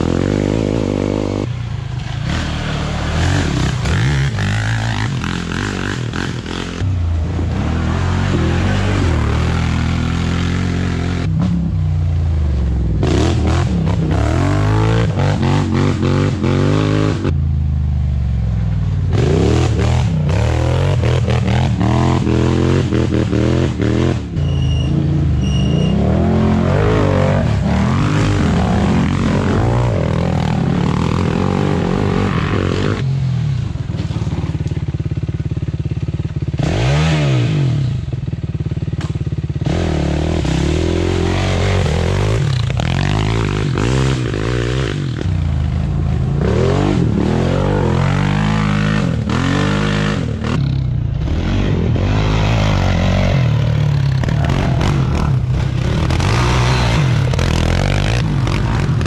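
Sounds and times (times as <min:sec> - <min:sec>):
quad engines revving: 0:00.0 - 0:11.6, 0:12.8 - 0:17.4, 0:19.1 - 0:34.5, 0:39.0 - 0:59.0.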